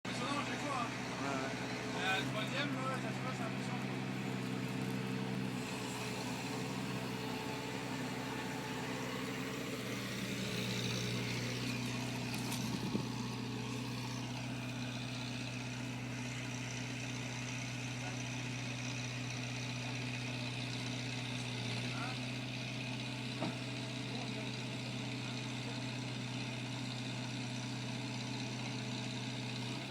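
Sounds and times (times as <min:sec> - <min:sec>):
engine idling: 0:00.1 - 0:29.9.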